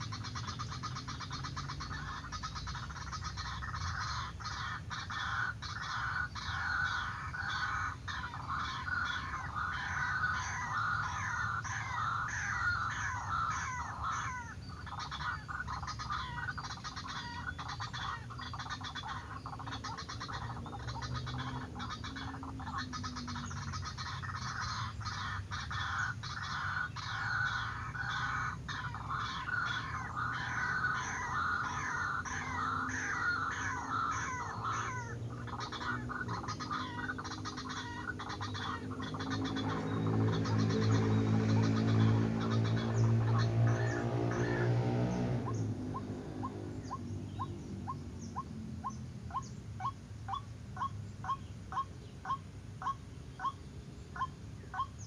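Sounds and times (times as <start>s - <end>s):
waterhen calling: 0.0s - 55.0s.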